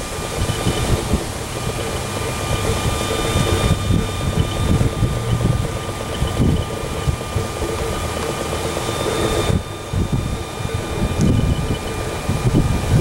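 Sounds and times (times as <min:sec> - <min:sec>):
thin steady high tone: 0:00.0 - 0:13.0
wind buffeting microphone: 0:00.0 - 0:13.0.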